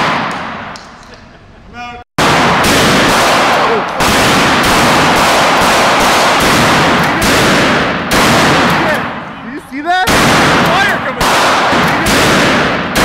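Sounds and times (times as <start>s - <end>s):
shotgun blasts echoing indoors: 0.0s - 1.1s, 2.2s - 9.4s, 10.0s - 13.0s.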